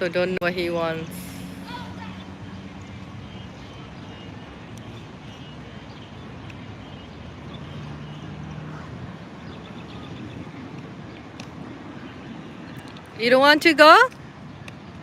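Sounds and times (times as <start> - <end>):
distant traffic hum: 0.0 - 15.0
steady wash of noise: 0.0 - 15.0.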